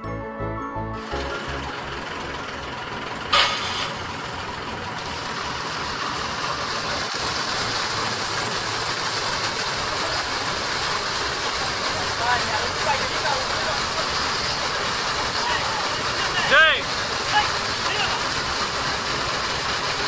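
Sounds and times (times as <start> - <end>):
diesel pump engine running: 0.4 - 20.0
loud engine burst: 1.0 - 20.0
water rushing and splashing: 1.0 - 20.0.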